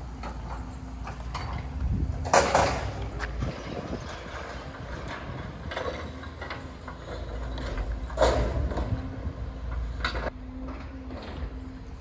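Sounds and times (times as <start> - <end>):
machinery engine rumble: 0.0 - 12.0.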